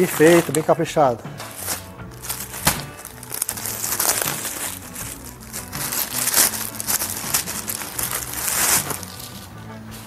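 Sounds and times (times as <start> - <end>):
plastic bag crinkling: 0.0 - 0.8, 1.4 - 9.5
soft background music: 0.0 - 10.0.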